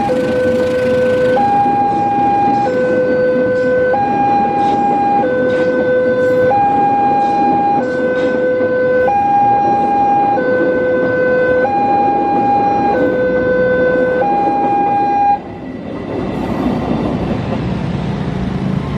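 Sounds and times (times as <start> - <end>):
road vehicles moving off: 0.0 - 18.9
street noise: 0.0 - 18.9.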